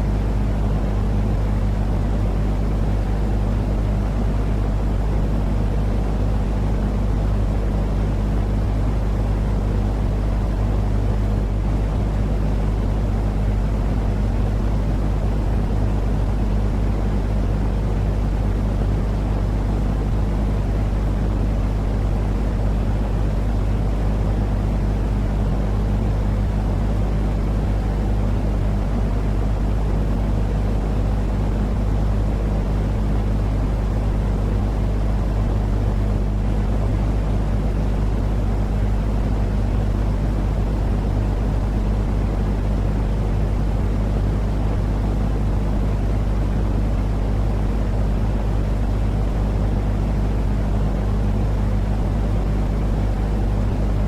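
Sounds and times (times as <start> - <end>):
low rumbling noise with hum: 0.0 - 54.0.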